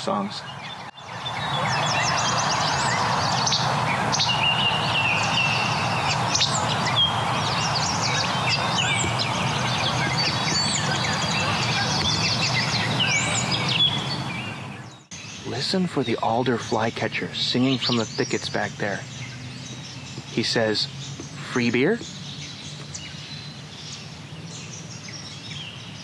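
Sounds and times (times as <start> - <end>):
other birds singing: 0.0 - 26.0.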